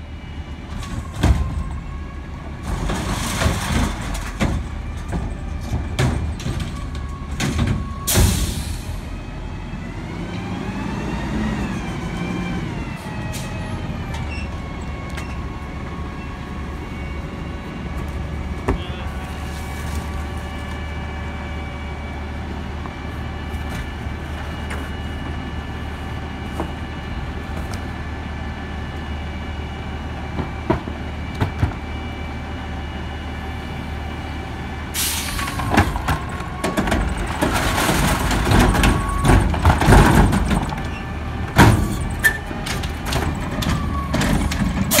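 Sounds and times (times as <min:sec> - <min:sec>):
garbage truck engine: 0:00.0 - 0:45.0.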